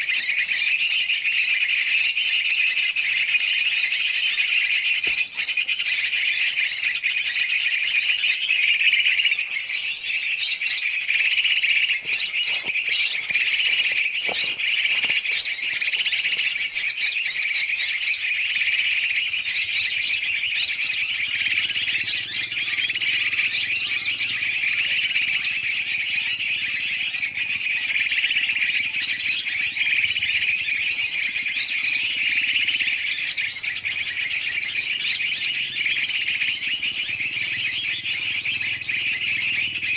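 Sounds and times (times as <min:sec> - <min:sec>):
bulbul calls: 0:00.0 - 0:39.9
chorus of birds chirping: 0:00.0 - 0:39.9.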